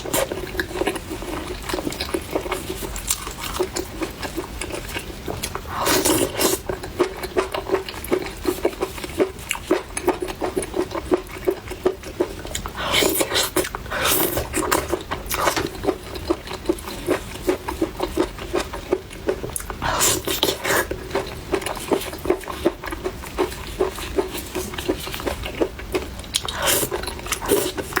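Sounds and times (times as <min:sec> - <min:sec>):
close chewing with wet mouth smacks: 0:00.1 - 0:28.0.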